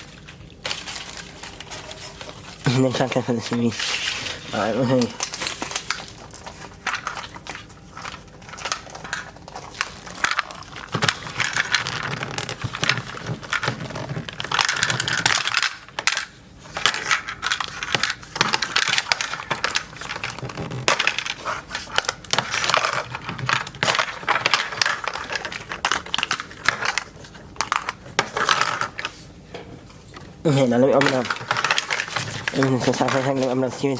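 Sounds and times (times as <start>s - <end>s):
crinkling plastic wrap: 0.0s - 29.4s, 30.0s - 33.9s.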